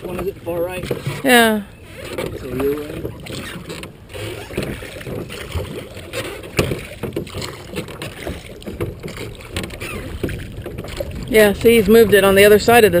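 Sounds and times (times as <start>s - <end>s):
oars knocking: 0.0s - 13.0s
oars pulling through water: 0.0s - 13.0s
water lapping at metal hull: 0.0s - 13.0s.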